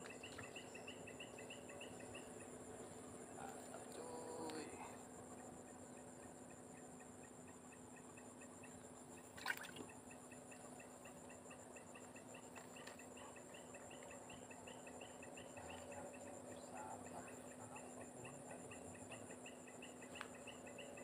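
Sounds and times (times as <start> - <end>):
insect chirping call: 0.0 - 21.0
insect pulsing trill: 0.0 - 21.0.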